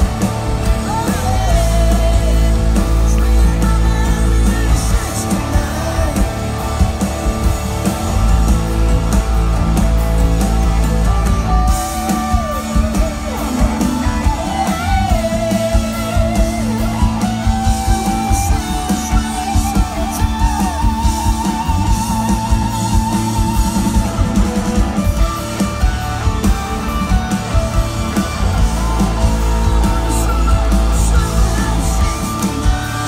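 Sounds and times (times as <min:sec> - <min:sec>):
electric guitar lead with vibrato: 0:00.0 - 0:33.0
live rock band playing: 0:00.0 - 0:33.0.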